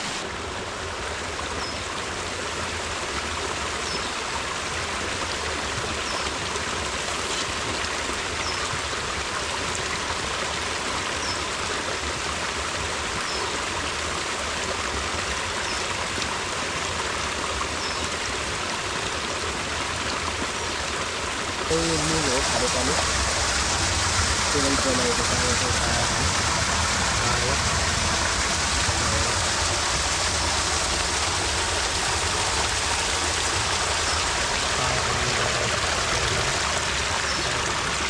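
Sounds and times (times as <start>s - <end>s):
stream splashing and rushing: 0.0s - 38.0s.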